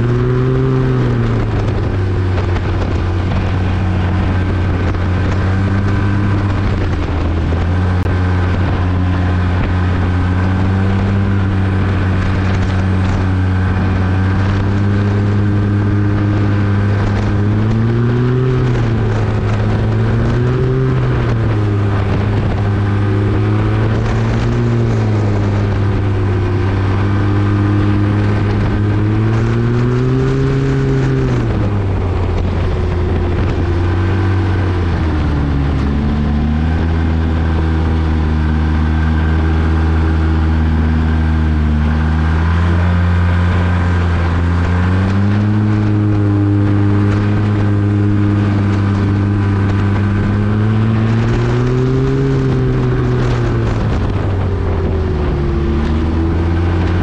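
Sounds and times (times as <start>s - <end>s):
snowmobile engine at high speed: 0.0s - 57.0s
wind rushing: 0.0s - 57.0s.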